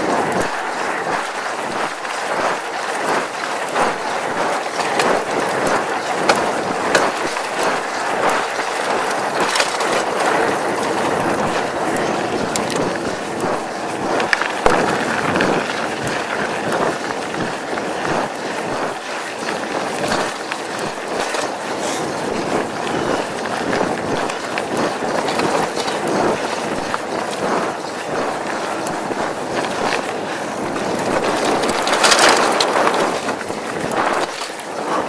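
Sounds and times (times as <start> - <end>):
bike rattling and clicking: 0.0 - 35.0
bike tyres on dirt: 0.0 - 35.0.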